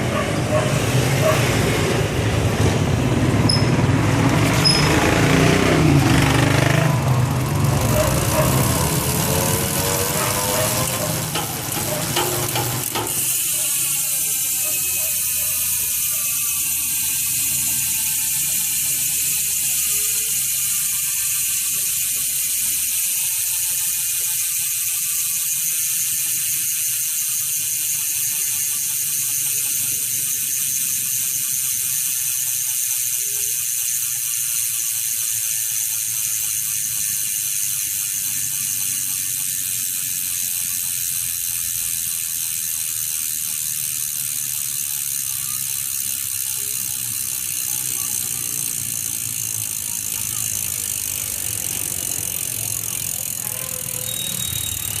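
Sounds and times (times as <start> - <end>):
bicycle hub freewheel buzzing: 0.0 - 55.0.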